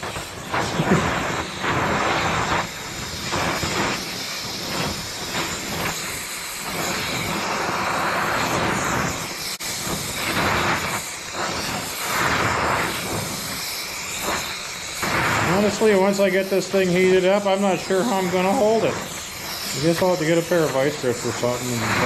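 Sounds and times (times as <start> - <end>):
torch flame hissing: 0.0 - 22.0.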